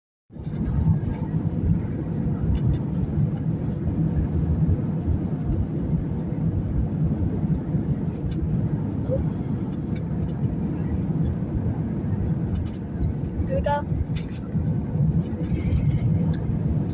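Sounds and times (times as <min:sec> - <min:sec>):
airplane rumble landing: 0:00.3 - 0:16.9.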